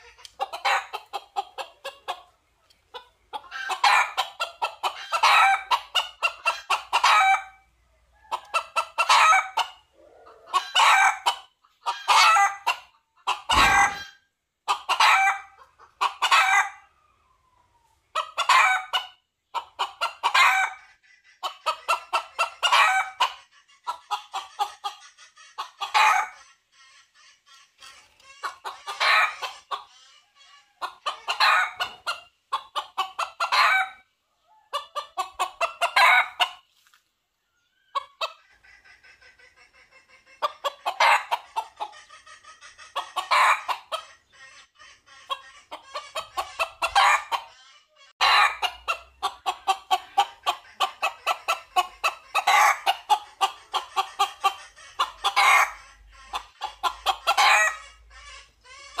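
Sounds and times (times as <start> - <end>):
rooster clucking: 0.0 - 36.9, 37.6 - 59.0.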